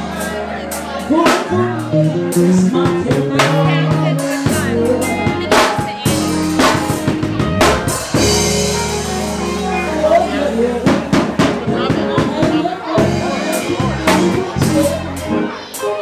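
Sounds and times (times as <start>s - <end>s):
bass line: 0.0s - 16.0s
drum kit beat: 0.0s - 16.0s
live band playing: 0.0s - 16.0s.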